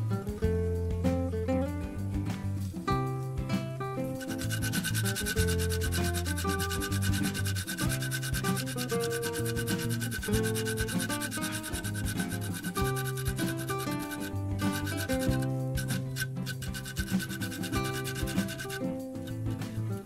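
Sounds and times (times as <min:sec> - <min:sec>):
background music with bass: 0:00.0 - 0:20.0.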